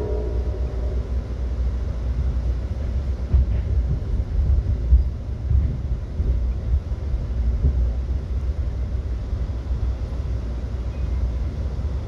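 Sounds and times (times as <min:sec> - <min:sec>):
train coach rumble: 0:00.0 - 0:12.0.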